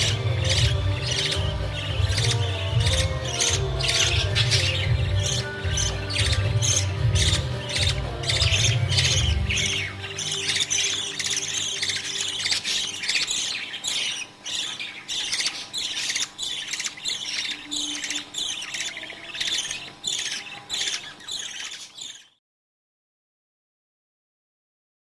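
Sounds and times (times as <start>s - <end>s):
budgerigars chirping: 0.0s - 22.4s.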